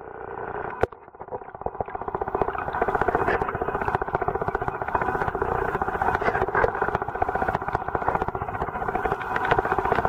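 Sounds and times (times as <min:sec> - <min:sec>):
pulsing motor drone underwater: 0:00.0 - 0:10.0.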